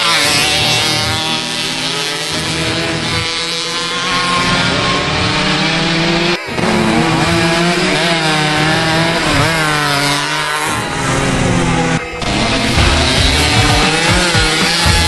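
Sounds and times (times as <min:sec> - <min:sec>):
two-stroke motorcycles revving: 0:00.0 - 0:15.0.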